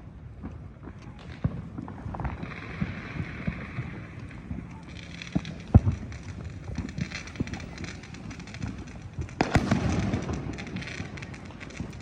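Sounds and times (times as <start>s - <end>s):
firework crackling: 0.0s - 12.0s
firecracker pops: 0.4s - 12.0s
firework bang: 1.3s - 12.0s.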